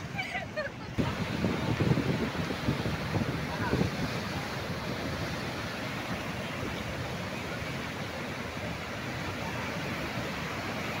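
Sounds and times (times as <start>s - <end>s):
water rushing and churning: 0.0s - 11.0s
wind buffeting microphone: 0.8s - 11.0s.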